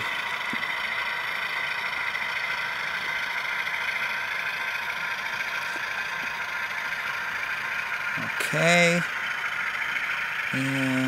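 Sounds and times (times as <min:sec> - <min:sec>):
diesel engine sound from small speaker: 0:00.0 - 0:11.0.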